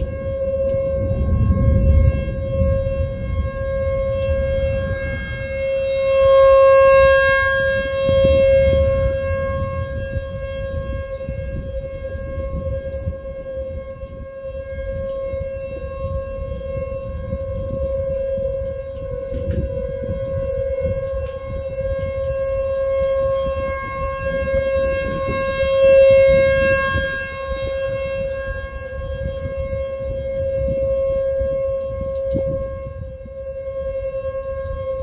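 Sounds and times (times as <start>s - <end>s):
low wind rumble: 0.0s - 35.0s
warning siren wailing: 0.0s - 35.0s.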